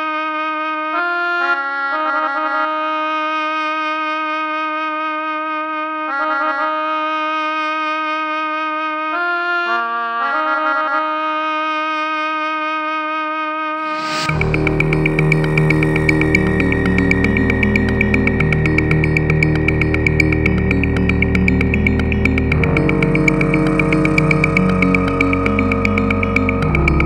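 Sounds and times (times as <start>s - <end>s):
reedy instrument melody: 0.0s - 27.0s.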